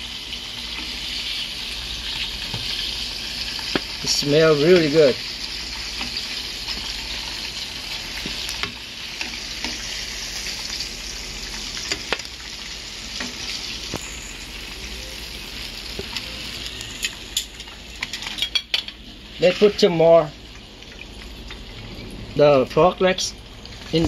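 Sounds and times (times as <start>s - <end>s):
hot oil sizzling: 0.0s - 24.0s
oil crackles and pops: 0.2s - 22.1s, 22.7s - 24.0s.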